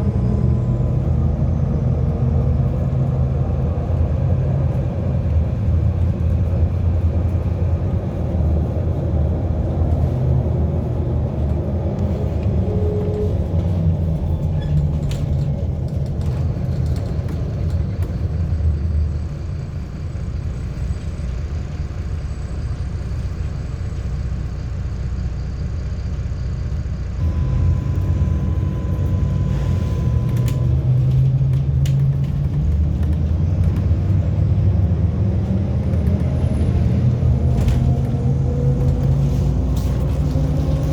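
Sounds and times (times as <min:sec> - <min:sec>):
bus engine and road rumble: 0:00.0 - 0:40.9.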